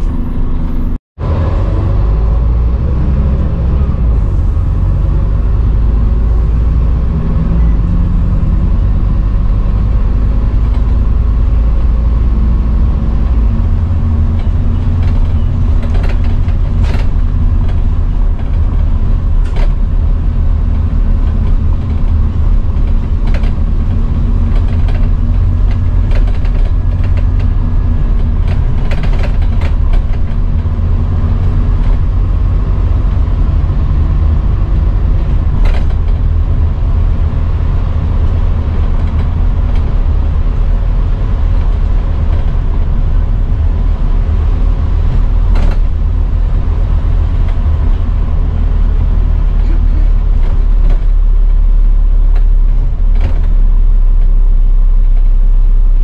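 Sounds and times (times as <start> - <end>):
bus engine drone: 0.0 - 56.0
bodywork rattles and creaks: 4.6 - 54.4.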